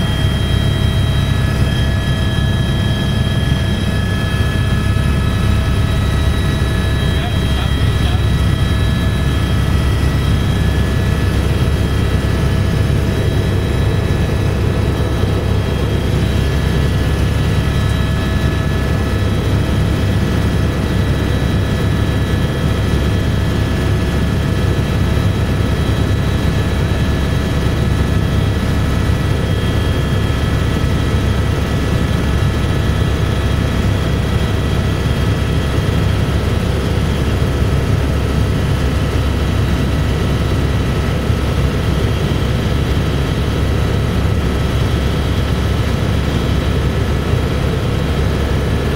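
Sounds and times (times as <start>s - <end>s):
helicopter cabin rumble: 0.0s - 48.9s.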